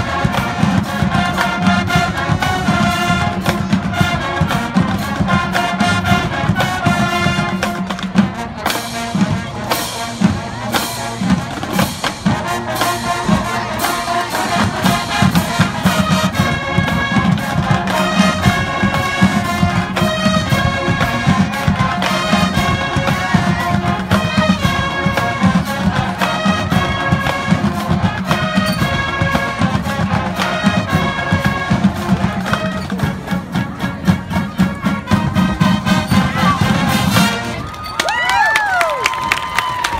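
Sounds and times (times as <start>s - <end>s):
marching band playing: 0.0s - 39.9s.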